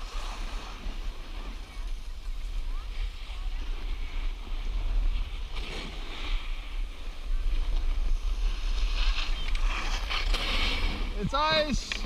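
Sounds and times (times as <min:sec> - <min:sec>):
snowboard scraping icy snow: 0:00.0 - 0:12.0
wind rumbling on microphone: 0:00.0 - 0:12.0.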